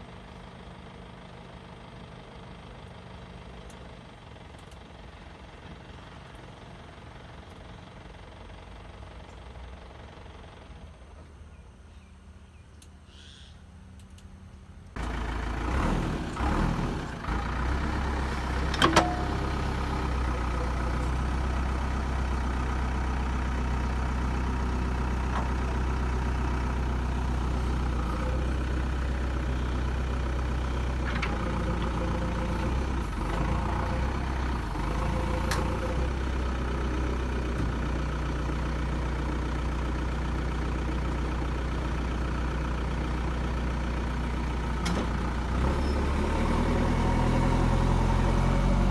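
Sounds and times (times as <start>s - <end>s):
diesel engine running: 0.0s - 12.4s, 13.9s - 48.9s.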